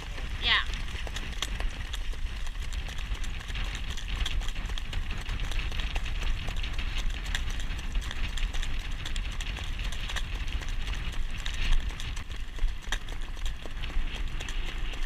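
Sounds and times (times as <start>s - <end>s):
horse hoofbeats trotting: 0.0s - 15.0s
wind and cart rolling rumble: 0.0s - 15.0s.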